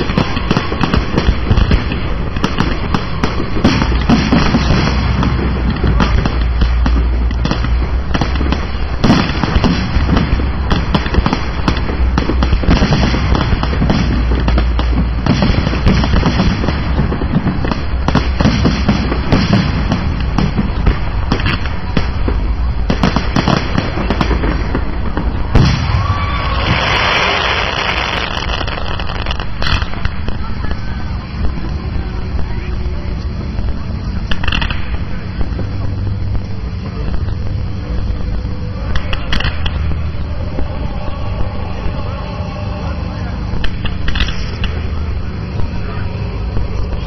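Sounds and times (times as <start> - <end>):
firework rising whistle: 0.0 - 35.6, 36.3 - 47.0
fireworks bangs and crackling: 0.0 - 47.0.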